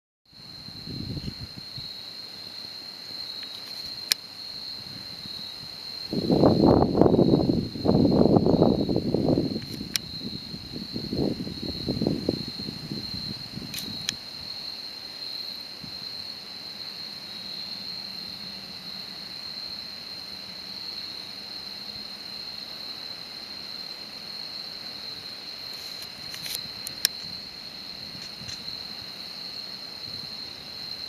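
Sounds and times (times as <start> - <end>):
insects chirring: 0.3 - 31.0.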